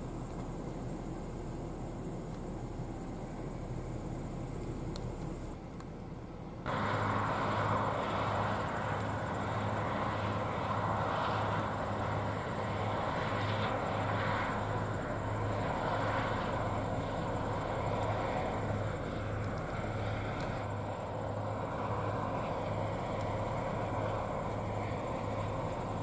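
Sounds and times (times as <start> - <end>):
combine harvester droning: 0.0 - 26.0.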